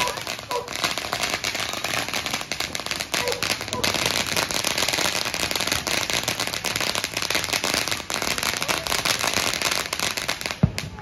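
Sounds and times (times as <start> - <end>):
firework crackling: 0.0 - 11.0.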